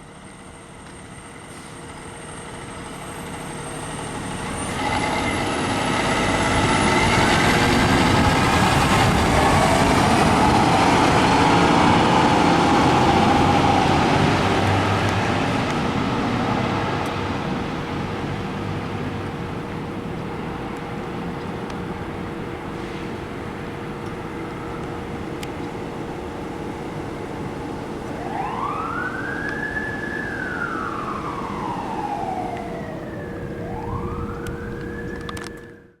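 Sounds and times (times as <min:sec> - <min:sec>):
engine and road noise: 0:00.0 - 0:36.0
fire truck siren wailing: 0:01.3 - 0:22.7, 0:23.4 - 0:36.0.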